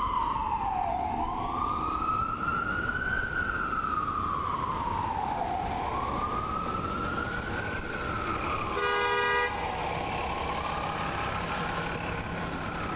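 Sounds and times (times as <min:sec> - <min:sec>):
ambulance siren wailing: 0:00.0 - 0:08.8, 0:09.7 - 0:12.9.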